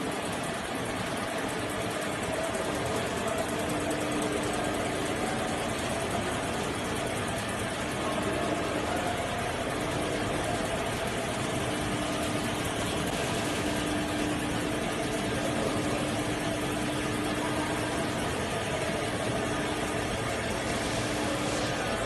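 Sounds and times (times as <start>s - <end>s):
taping machine running: 0.0s - 22.0s.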